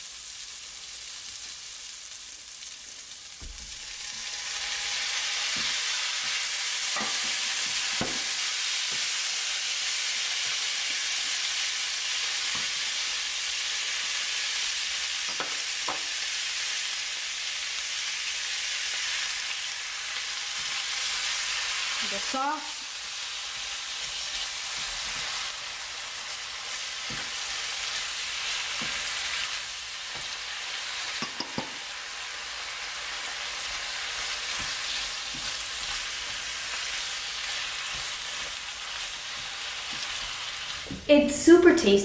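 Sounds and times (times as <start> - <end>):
meat and vegetables sizzling in oil: 0.0 - 42.0.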